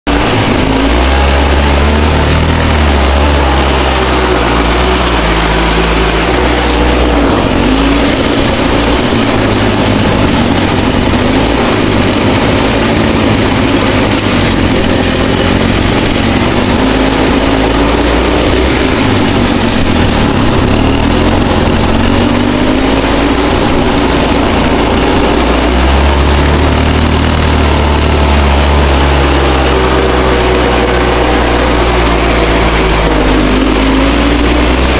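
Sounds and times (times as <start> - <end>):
lawn tractor engine under load: 0.0 - 34.9.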